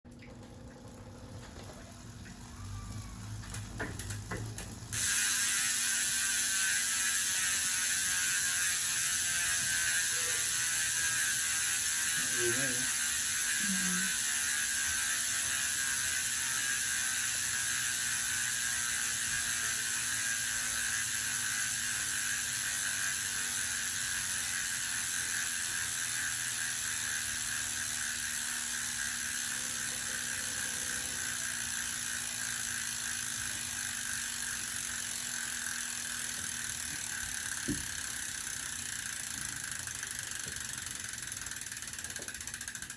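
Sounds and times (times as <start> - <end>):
bicycle hub ratcheting clicks: 1.4 - 42.9.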